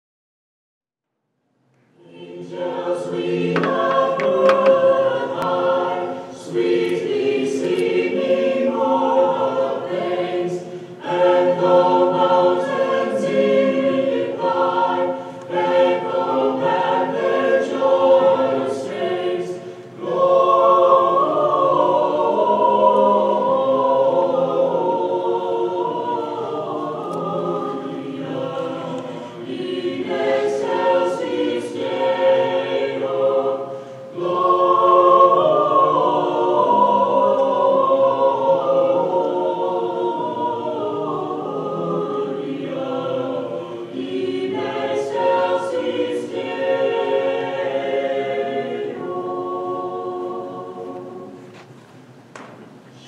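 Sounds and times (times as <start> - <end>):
choir singing a hymn: 1.9 - 51.7.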